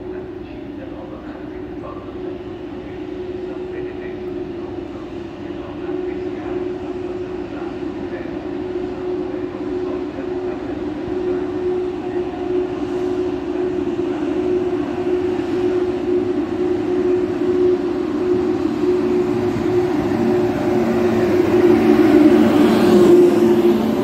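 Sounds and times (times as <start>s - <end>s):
constant even hum: 0.0s - 24.0s
electric train approaching: 0.0s - 24.0s.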